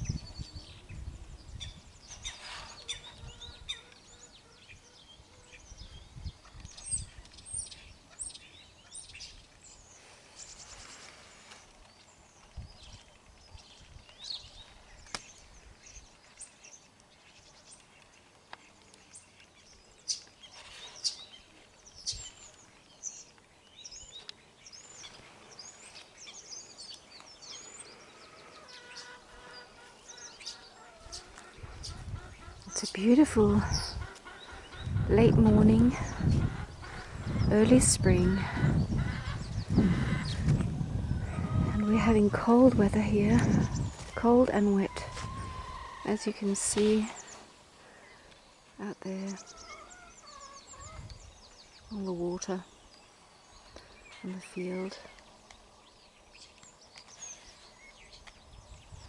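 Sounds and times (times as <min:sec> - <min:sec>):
faint outdoor hiss: 0:00.0 - 0:59.0
small birds chirping: 0:00.0 - 0:59.0.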